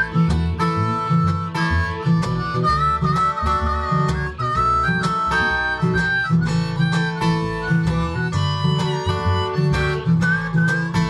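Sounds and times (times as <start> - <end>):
harmonica with bending notes: 0.0 - 11.0
plucked washtub bass: 0.0 - 11.0
strummed acoustic guitar: 0.0 - 11.0.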